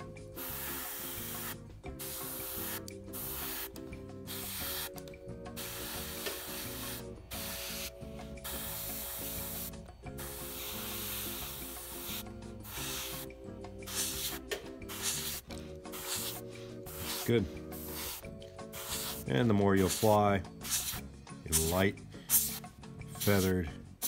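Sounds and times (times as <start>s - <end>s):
background music: 0.0s - 24.0s
airbrush spraying hiss: 0.3s - 23.5s.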